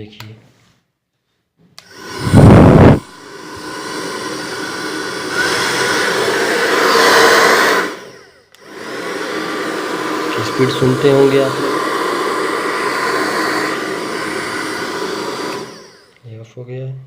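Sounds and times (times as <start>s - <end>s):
hair dryer blowing: 1.8s - 16.2s.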